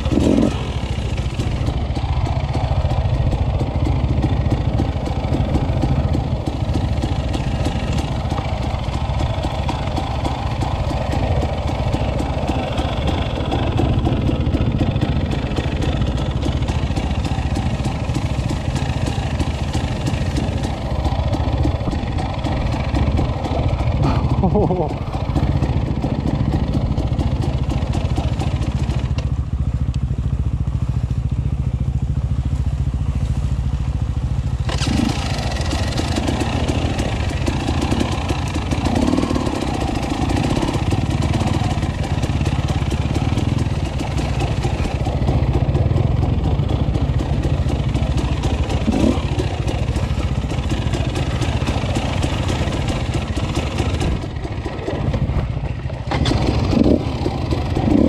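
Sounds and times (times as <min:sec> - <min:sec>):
two-stroke motorcycle engine running: 0:00.0 - 0:58.0.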